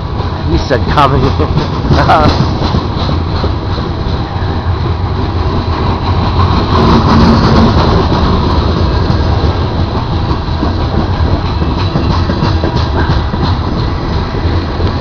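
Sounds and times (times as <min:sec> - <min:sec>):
train cars rolling on rails: 0:00.0 - 0:15.0.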